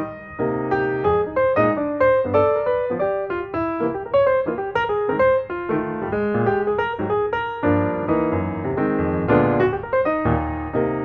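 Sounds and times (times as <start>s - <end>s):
lively piano music: 0.0s - 11.0s.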